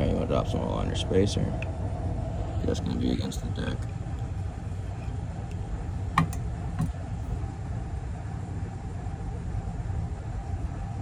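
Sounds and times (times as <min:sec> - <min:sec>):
faint steady hum: 0:00.0 - 0:11.0
machinery rumble: 0:00.0 - 0:11.0.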